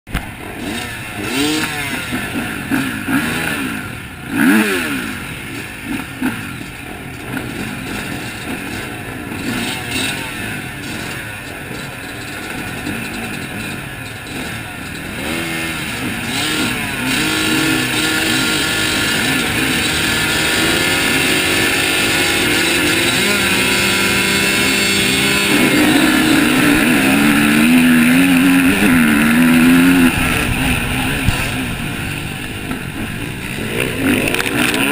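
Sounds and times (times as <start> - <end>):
motocross bike engines revving: 0.1 - 34.9.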